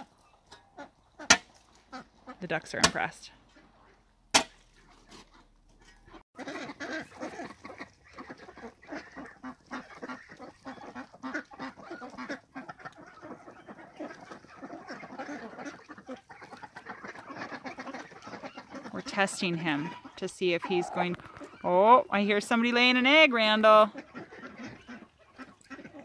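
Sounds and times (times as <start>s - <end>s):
ducks quacking: 0.0s - 4.1s, 4.7s - 26.0s.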